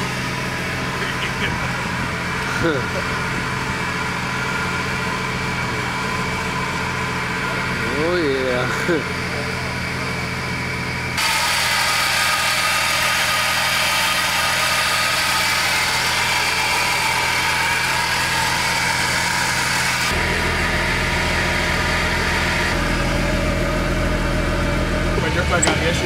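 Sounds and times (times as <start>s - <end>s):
bright engine noise: 0.0s - 26.0s
deep engine rumble: 0.0s - 26.0s
vehicle engines idling: 0.0s - 26.0s.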